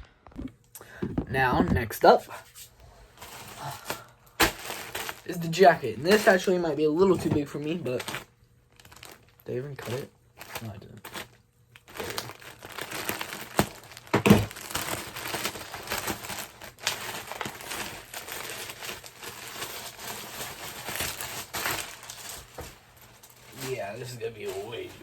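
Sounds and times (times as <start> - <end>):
packaging tearing and crinkling: 3.2 - 6.6, 7.4 - 25.0.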